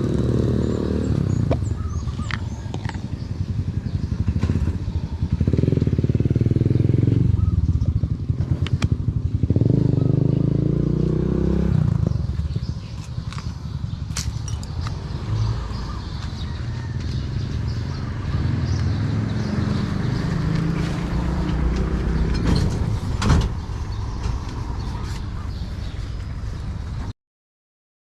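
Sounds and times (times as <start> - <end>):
vehicle engine rumbling: 0.0 - 27.1.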